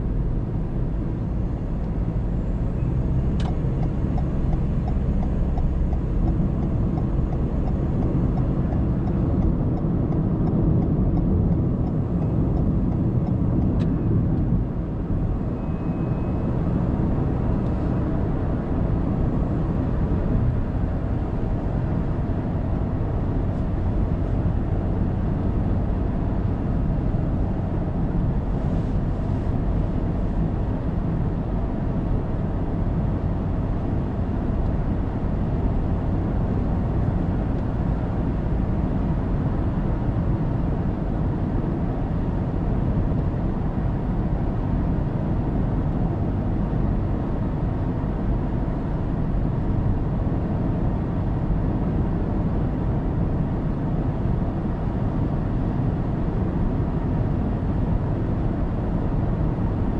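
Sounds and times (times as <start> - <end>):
car tyre and engine rumble: 0.0 - 59.9.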